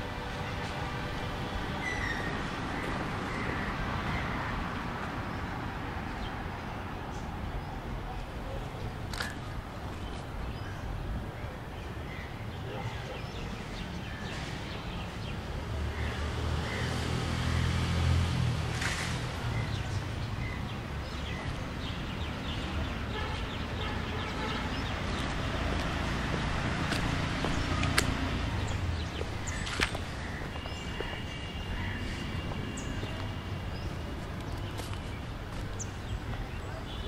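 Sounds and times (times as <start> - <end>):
steady traffic noise: 0.0 - 37.0.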